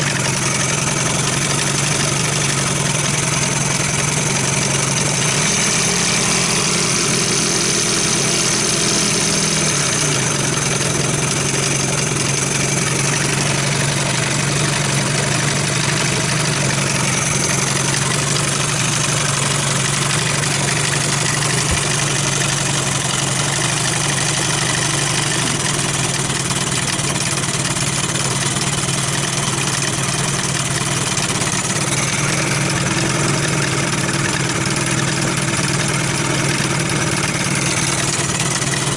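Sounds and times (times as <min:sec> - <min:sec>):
outboard motor idling: 0:00.0 - 0:38.9.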